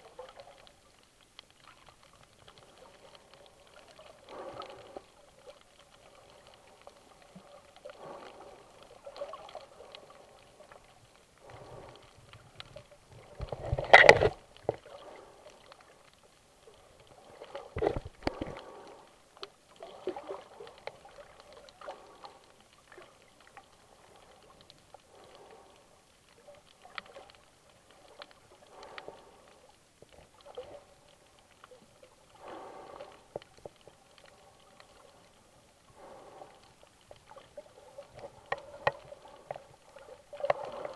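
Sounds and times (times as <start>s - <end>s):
muffled underwater swishing: 1.6s - 40.9s.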